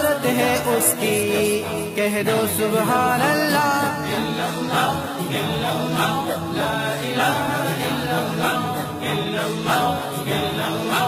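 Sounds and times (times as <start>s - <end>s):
male voices chanting in chorus: 0.0s - 11.0s.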